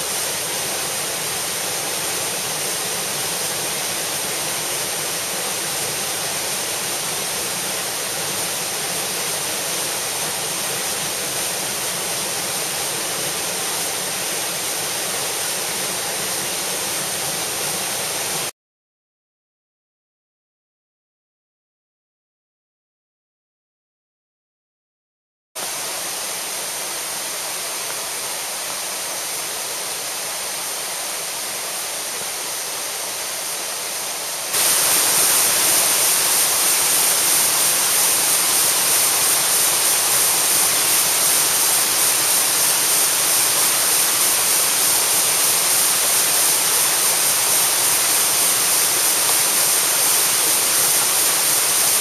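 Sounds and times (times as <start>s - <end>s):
waterfall rushing: 0.0s - 18.5s, 25.6s - 52.0s.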